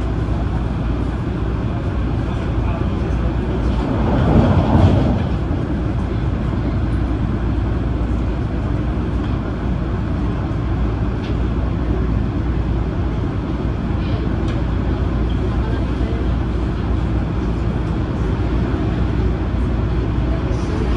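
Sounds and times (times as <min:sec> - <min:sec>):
train wheels rumbling: 0:00.0 - 0:20.9.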